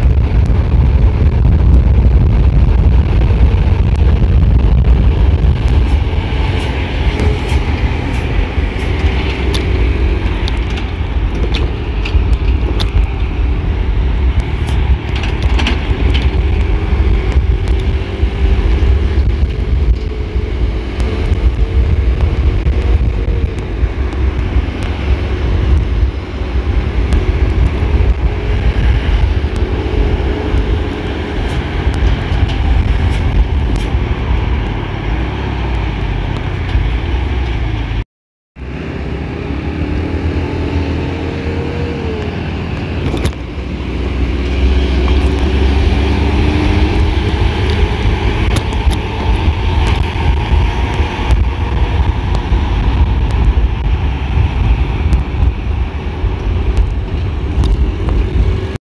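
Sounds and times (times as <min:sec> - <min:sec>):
vehicle engines running: 0:00.0 - 0:38.0, 0:38.6 - 0:58.8.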